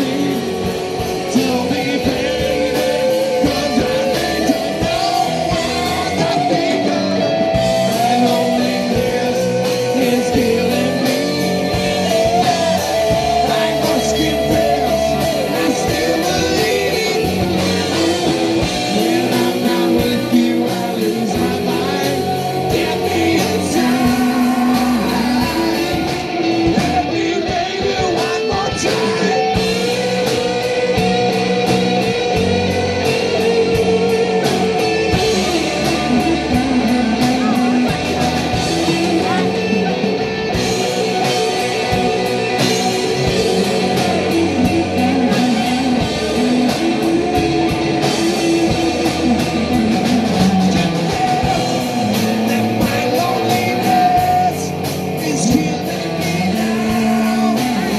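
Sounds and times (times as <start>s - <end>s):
live rock band playing: 0.0s - 57.9s.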